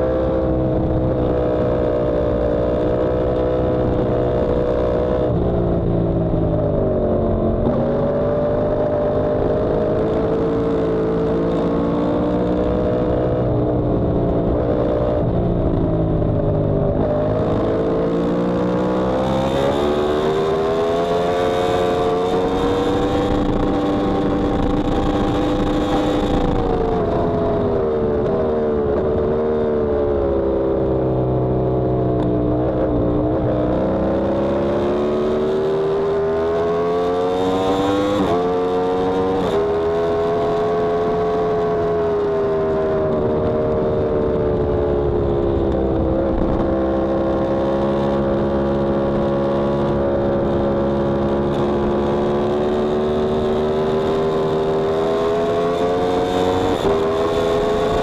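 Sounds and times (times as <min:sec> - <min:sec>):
motorcycle engine accelerating: 0:00.0 - 0:58.0
wind rushing over microphone: 0:03.8 - 0:34.6, 0:35.6 - 0:58.0.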